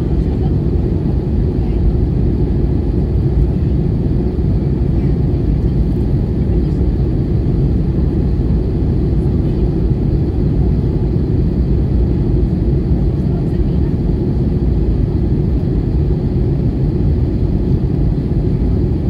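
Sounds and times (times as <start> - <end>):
airliner cabin engine roar: 0.0 - 19.0.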